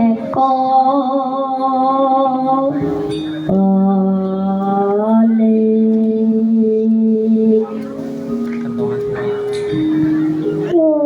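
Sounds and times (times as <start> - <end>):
person singing long held notes: 0.0 - 11.0.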